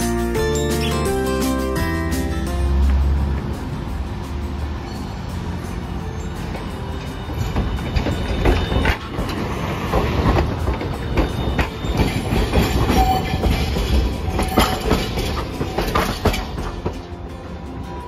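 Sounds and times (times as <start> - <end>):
streetcar rumbling past: 0.0 - 18.0
wheels clacking over rail joints: 2.8 - 18.0.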